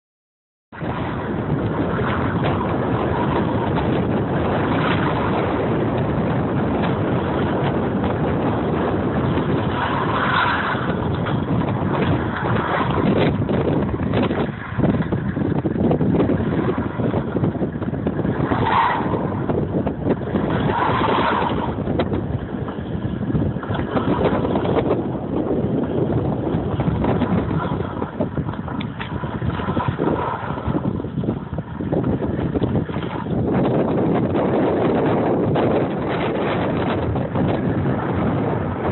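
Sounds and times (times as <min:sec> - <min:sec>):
wind noise on microphone: 0:00.7 - 0:38.9.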